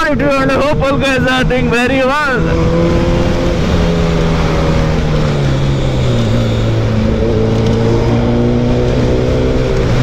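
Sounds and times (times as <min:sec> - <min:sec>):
motorcycle engine cruising: 0:00.0 - 0:10.0
wind rush on microphone: 0:00.0 - 0:10.0.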